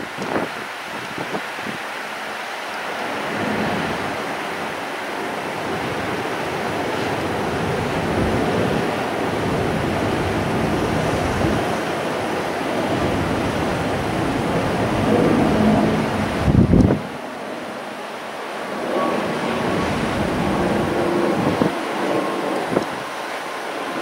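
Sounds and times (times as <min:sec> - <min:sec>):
wind buffeting microphone: 0:00.0 - 0:01.9, 0:03.2 - 0:17.3, 0:18.8 - 0:24.0.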